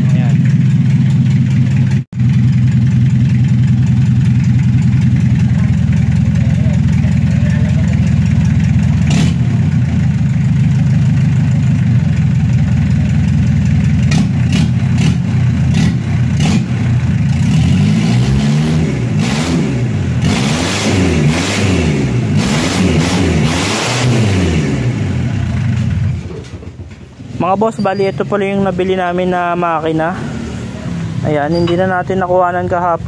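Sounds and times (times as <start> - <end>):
diesel engine idling and revving: 0.0 - 33.0.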